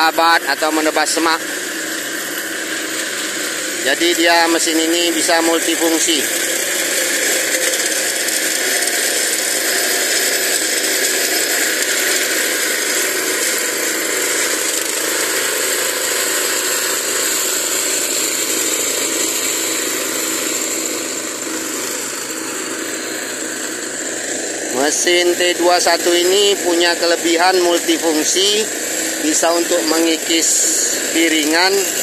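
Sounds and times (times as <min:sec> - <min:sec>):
brush cutter engine running: 0:00.0 - 0:32.0.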